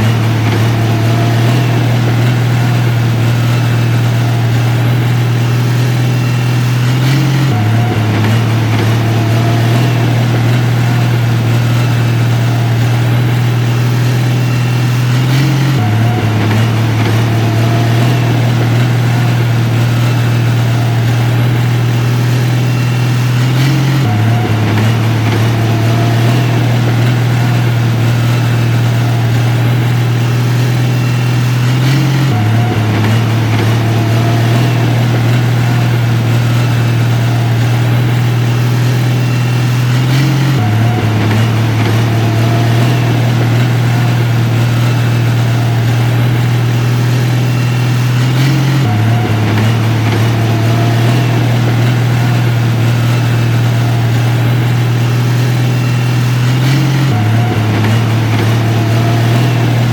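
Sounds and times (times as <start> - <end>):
diesel engine deep hum: 0.0 - 59.9.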